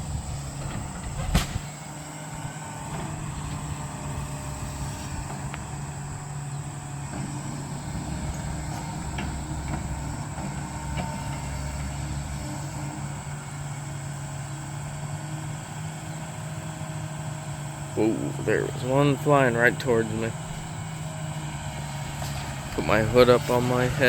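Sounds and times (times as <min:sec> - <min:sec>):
diesel engine running steadily: 0:00.0 - 0:24.0.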